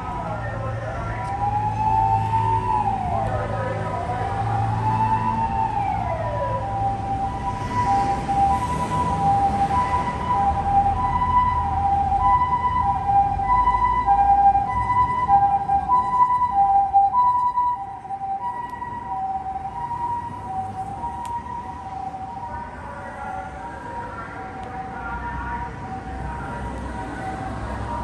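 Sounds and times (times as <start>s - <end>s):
two-tone ambulance siren: 0.0s - 28.0s.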